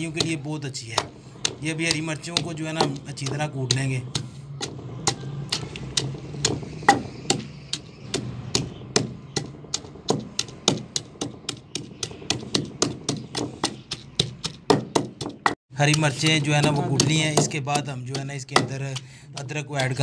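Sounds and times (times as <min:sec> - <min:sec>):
pestle pounding in stone mortar: 0:00.0 - 0:20.0.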